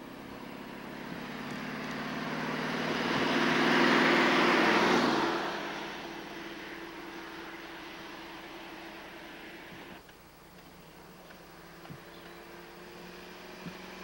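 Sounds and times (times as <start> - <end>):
car driving past: 0.0 - 10.0, 11.6 - 14.0.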